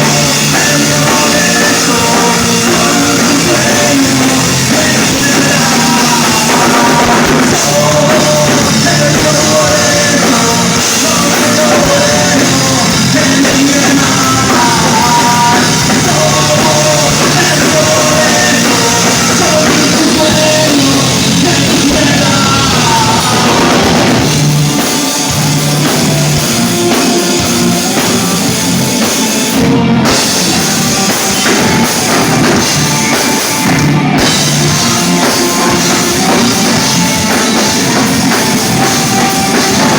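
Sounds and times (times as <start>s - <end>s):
lead vocal singing: 0.0s - 39.9s
live rock band: 0.0s - 39.9s.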